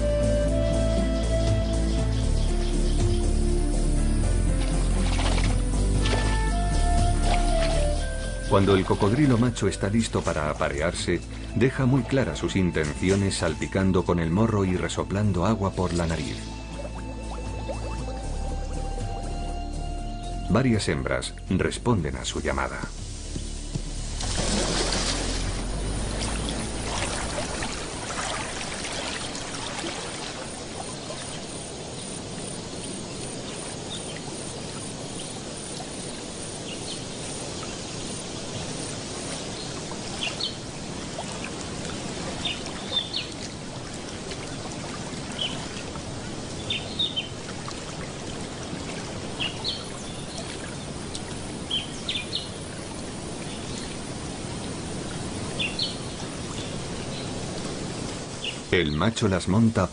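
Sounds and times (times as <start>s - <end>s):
water trickling: 0.0s - 20.3s, 22.5s - 59.6s.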